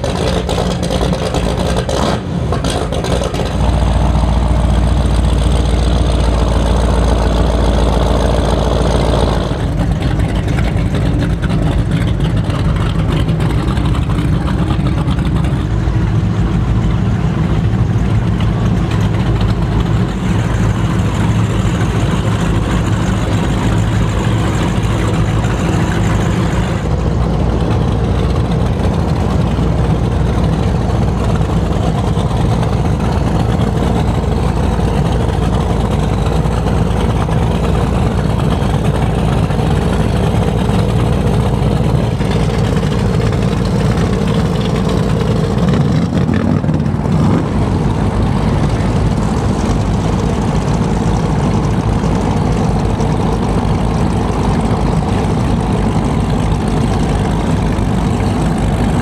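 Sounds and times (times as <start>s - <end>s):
powerboat engines rumbling: 0.0s - 59.0s.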